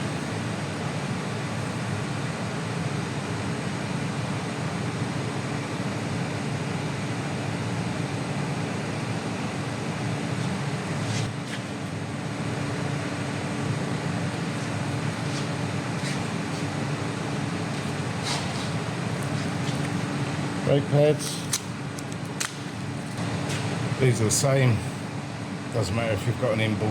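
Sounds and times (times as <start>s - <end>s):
workshop hum and hiss: 0.0s - 26.9s.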